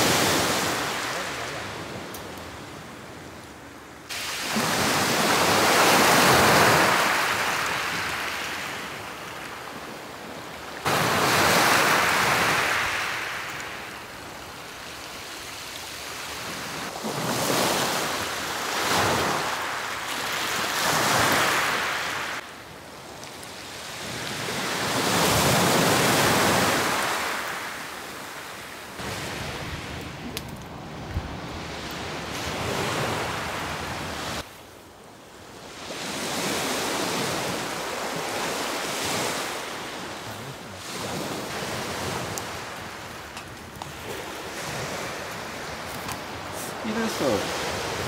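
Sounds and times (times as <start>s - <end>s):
sea waves washing onto beach: 0.0s - 34.7s, 35.5s - 48.0s.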